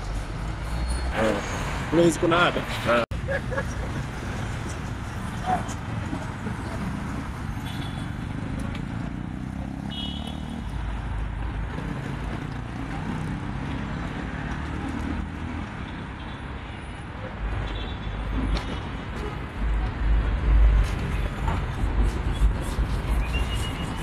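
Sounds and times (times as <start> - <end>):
road noise: 0.0 - 24.0
vehicle engines passing: 0.0 - 24.0.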